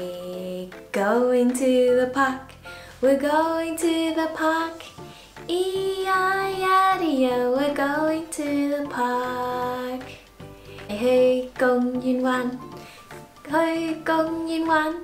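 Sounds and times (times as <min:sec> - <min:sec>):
woman singing: 0:00.0 - 0:10.3, 0:10.9 - 0:12.8, 0:13.4 - 0:15.0
soft backing music: 0:00.0 - 0:15.0.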